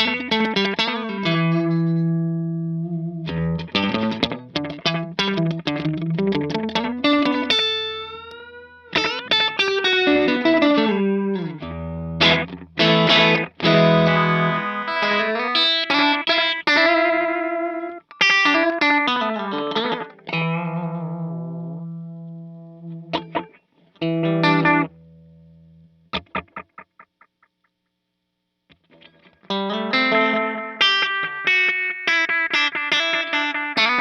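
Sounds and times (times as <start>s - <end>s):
electric guitar with delay: 0.0s - 27.3s, 28.9s - 34.0s.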